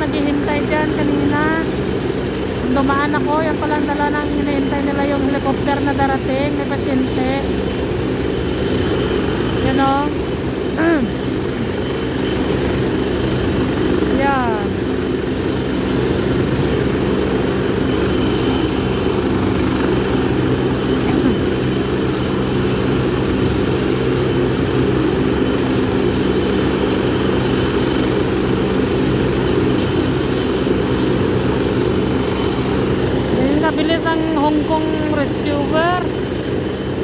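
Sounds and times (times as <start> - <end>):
helicopter idling drone: 0.0 - 37.0.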